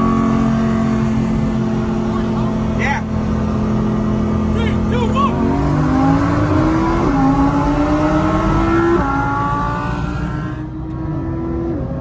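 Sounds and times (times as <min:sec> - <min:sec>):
car engine revving with upshifts: 0:00.0 - 0:12.0.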